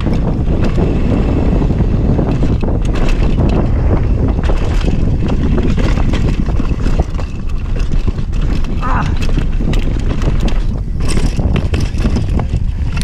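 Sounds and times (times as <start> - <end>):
bike rattling over bumps: 0.0 - 13.0
tyres rolling over dirt trail: 0.0 - 13.0
wind buffeting the microphone: 0.0 - 13.0.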